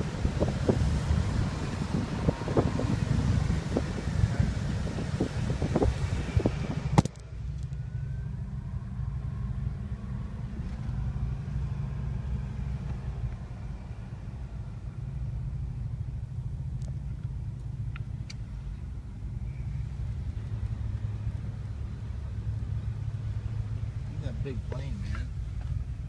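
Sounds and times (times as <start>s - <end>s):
low rumble of tyres and engine: 0.0s - 26.0s
road and wind noise: 0.0s - 26.0s.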